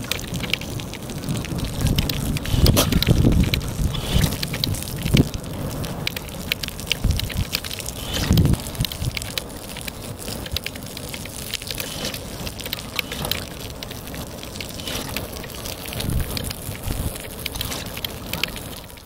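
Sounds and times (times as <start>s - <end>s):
sharp clicks: 0.0s - 5.4s, 6.0s - 16.6s
water droplets pattering: 0.0s - 19.0s.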